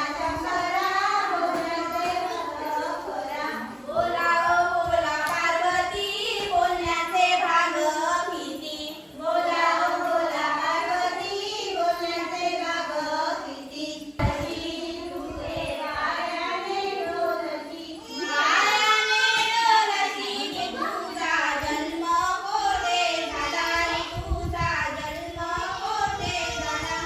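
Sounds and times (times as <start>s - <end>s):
women and girls singing in chorus: 0.0s - 27.0s.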